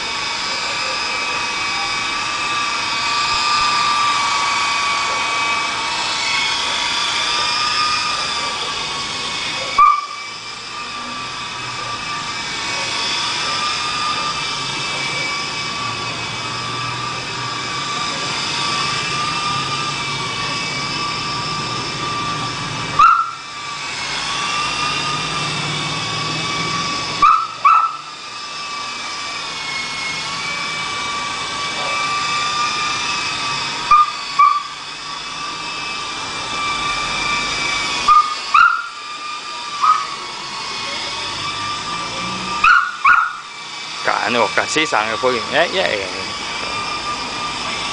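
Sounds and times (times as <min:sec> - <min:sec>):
model helicopter rotor whining: 0:00.0 - 0:47.9.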